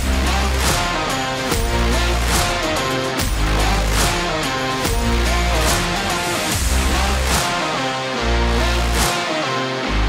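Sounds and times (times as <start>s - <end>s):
guitar music with strong bass line: 0.0s - 10.0s.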